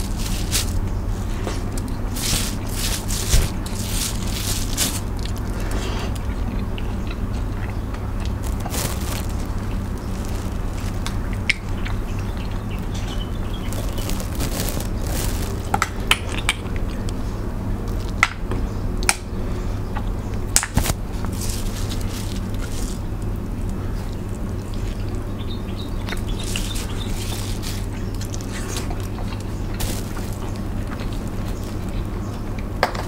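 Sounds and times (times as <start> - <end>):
wet squishing of shellfish: 0.0 - 17.2, 20.0 - 32.8
low hum: 0.0 - 32.8.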